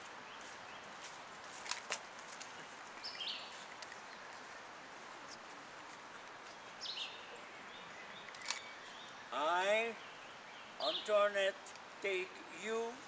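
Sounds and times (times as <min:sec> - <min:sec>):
steady soft hiss: 0:00.0 - 0:13.0.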